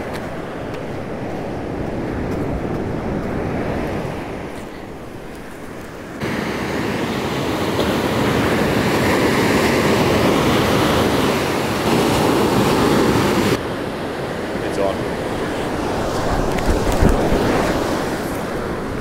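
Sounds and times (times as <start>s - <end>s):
surf breaking on beach: 0.0s - 13.6s, 14.2s - 19.0s.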